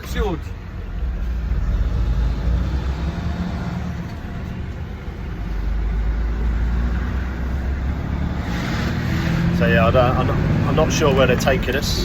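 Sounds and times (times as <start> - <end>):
road rumble: 0.0 - 12.0
vehicle engine hum: 0.0 - 12.0.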